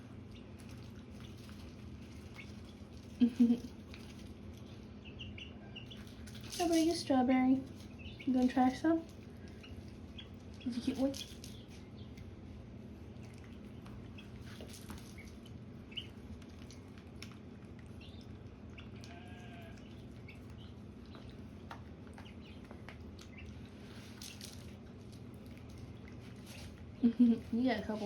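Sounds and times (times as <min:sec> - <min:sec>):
ducklings peeping: 0:00.0 - 0:26.8
steady low hum: 0:00.0 - 0:28.0.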